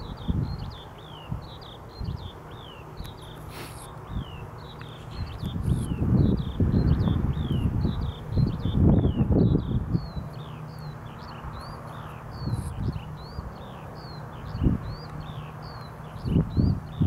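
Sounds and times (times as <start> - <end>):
distant farm machinery humming: 0.0 - 17.0
small bird chirping: 0.0 - 17.0.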